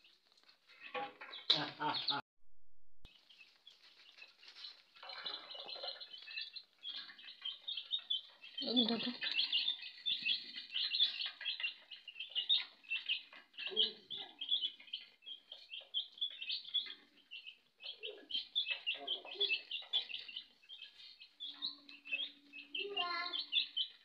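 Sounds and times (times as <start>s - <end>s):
chicks peeping: 0.0s - 2.2s, 3.1s - 24.0s.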